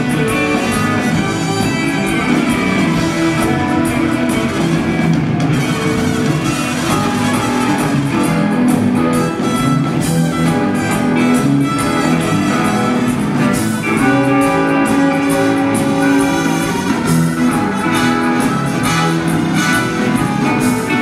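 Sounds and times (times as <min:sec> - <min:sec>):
trumpets playing held notes: 0:00.0 - 0:04.8, 0:05.5 - 0:21.0
rock band jamming loudly: 0:00.0 - 0:21.0.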